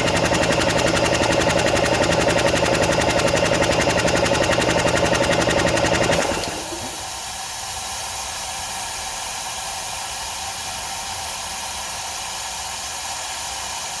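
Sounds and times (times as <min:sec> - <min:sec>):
air compressor pump chugging: 0:00.0 - 0:14.0.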